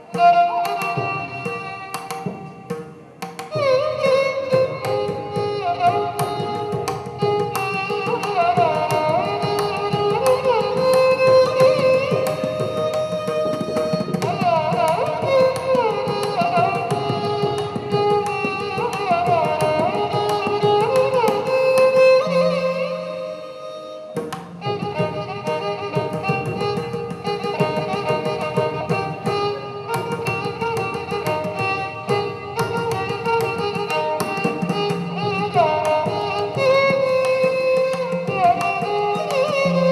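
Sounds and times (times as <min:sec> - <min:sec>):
hand drum accompaniment: 0:00.0 - 0:39.9
solo violin melody: 0:00.0 - 0:39.9.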